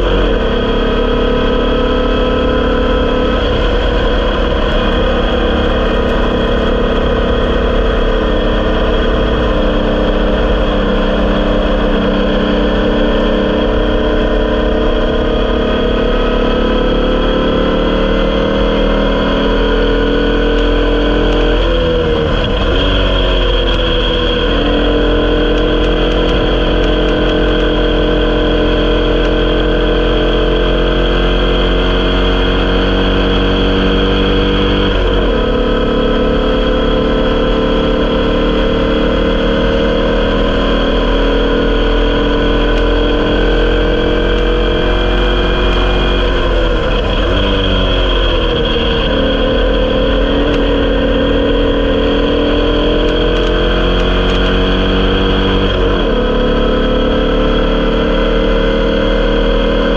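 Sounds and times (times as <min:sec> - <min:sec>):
racing car engine running hard: 0:00.0 - 0:59.9.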